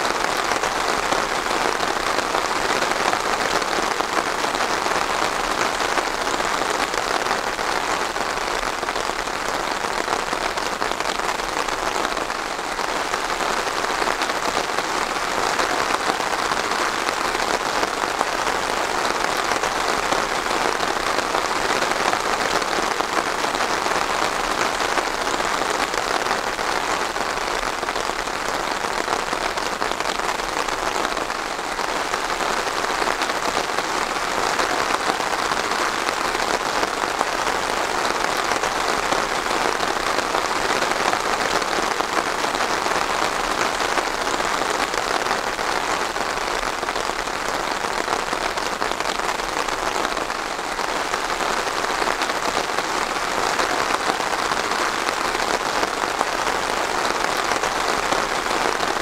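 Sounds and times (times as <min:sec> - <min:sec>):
rain on a hard surface: 0:00.0 - 0:59.0.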